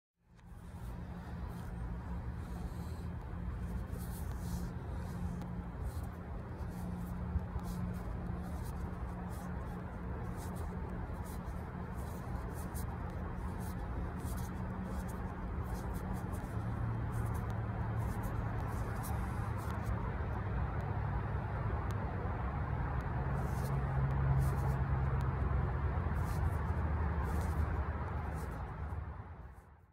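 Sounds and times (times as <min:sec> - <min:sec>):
steady low hum: 0:00.2 - 0:29.8.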